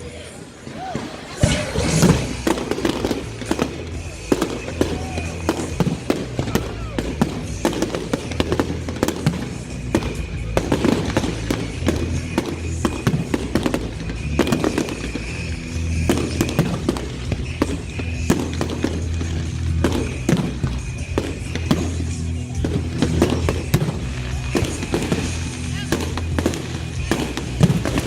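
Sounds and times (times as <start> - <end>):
music playing: 0.0 - 28.0
firework shells banging and crackling: 0.6 - 28.0.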